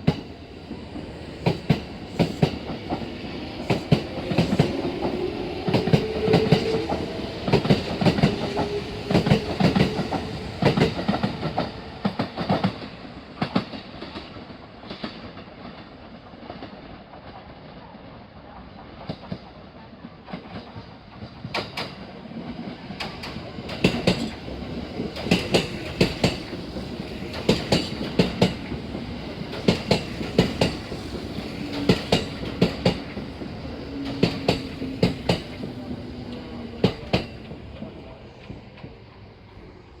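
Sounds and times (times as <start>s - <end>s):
electric train passing slowly: 0.0s - 40.0s.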